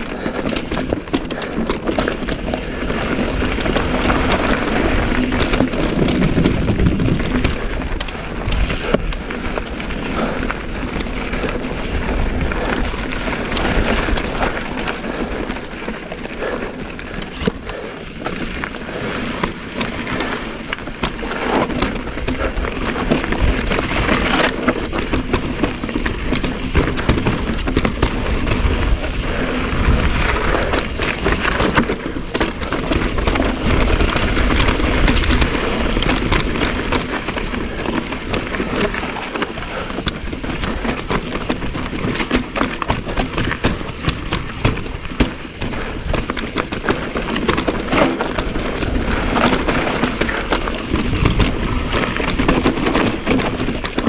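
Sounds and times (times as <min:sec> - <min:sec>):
bike knocking and rattling: 0:00.0 - 0:54.0
bike tyres crunching on gravel: 0:00.0 - 0:54.0
wind rumble on microphone: 0:00.0 - 0:54.0.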